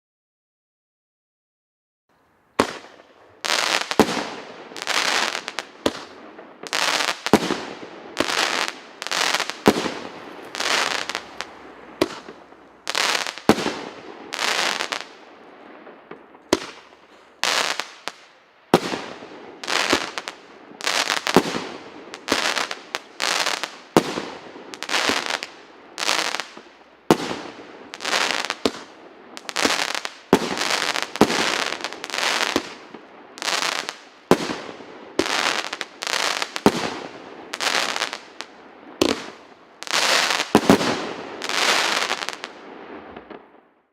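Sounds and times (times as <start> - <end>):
firework shots firing: 2.6 - 43.4.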